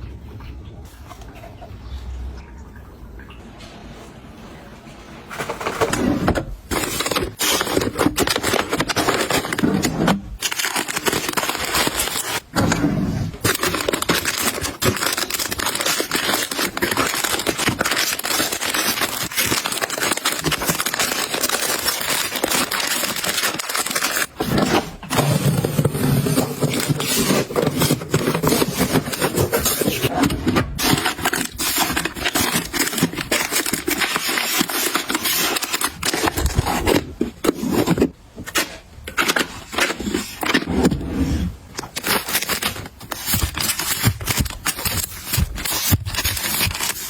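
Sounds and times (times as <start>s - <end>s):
scraping and crackling: 5.3s - 47.0s.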